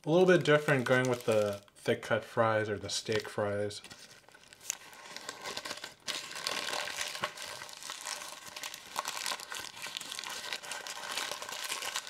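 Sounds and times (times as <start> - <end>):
paper wrapper crinkling: 0.0 - 1.8, 3.0 - 12.0.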